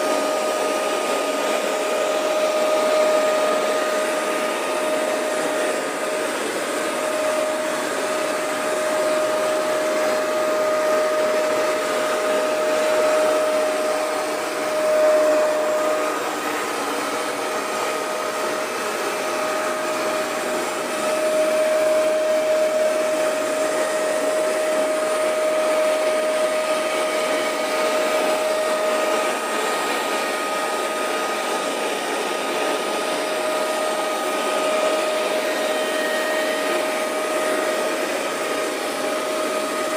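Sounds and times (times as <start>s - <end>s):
carpet cleaner motor whine: 0.0s - 39.9s.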